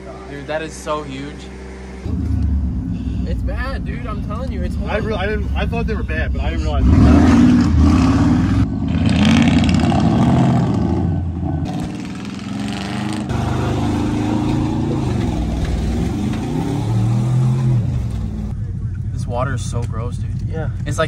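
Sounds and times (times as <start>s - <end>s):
truck engine revving: 0.0s - 18.5s.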